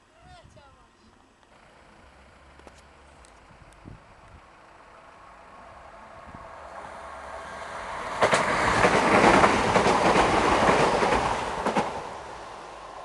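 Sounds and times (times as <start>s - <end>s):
train passing at speed: 1.6s - 13.0s.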